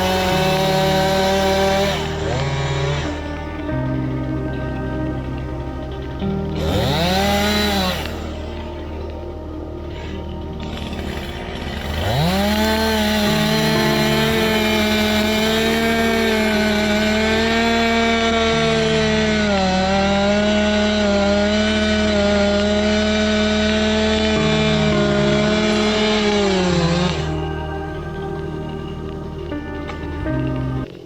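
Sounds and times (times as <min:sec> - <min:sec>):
chainsaw revving at full throttle: 0:00.0 - 0:31.0.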